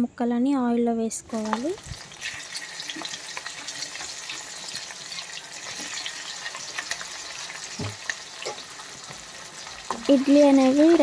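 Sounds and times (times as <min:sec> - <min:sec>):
food frying in hot oil: 0:01.3 - 0:11.0
small crackles: 0:01.3 - 0:11.0.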